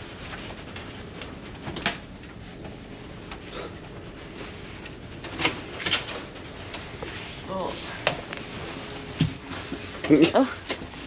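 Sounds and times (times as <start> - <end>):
ferry running noise: 0.0 - 11.0.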